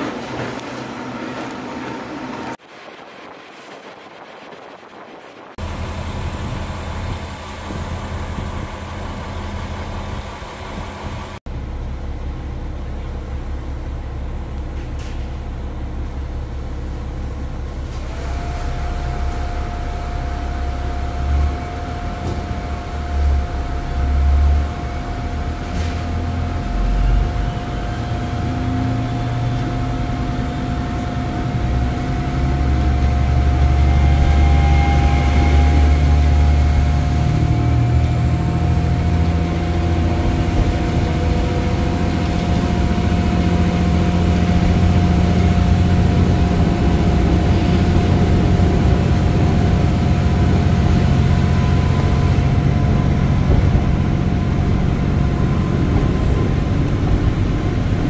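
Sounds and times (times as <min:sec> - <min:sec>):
steady whine: 0:00.0 - 0:58.0
train rumbling: 0:00.0 - 0:58.0.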